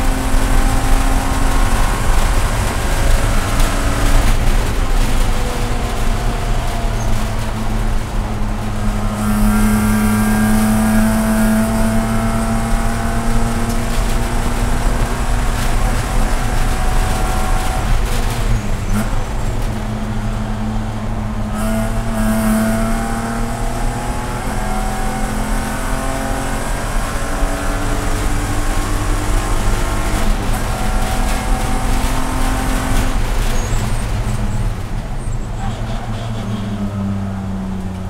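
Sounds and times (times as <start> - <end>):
race car engine revving: 0.0 - 38.0
road and wind noise: 0.0 - 38.0.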